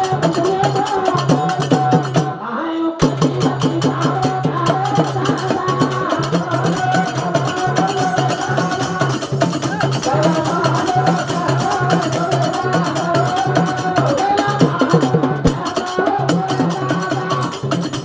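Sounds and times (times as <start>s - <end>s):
hand drum beat: 0.0s - 2.4s, 3.0s - 18.0s
jingling percussion: 0.0s - 2.4s, 3.0s - 18.0s
man singing: 0.0s - 18.0s.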